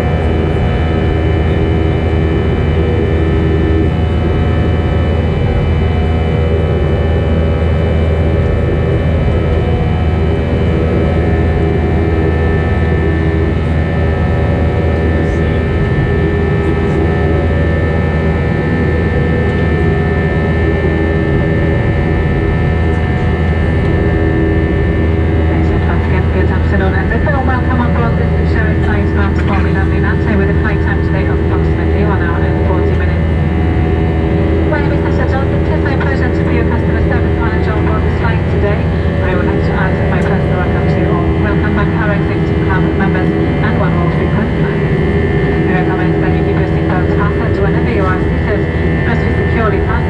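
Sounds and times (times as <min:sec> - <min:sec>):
jet engines rumbling and whining: 0:00.0 - 0:50.0.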